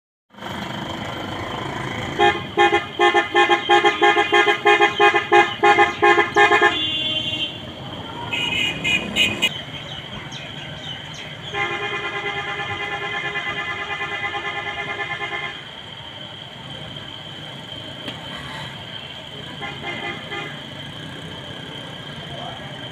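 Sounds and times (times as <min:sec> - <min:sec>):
engine and street rumble: 0:00.3 - 0:22.9.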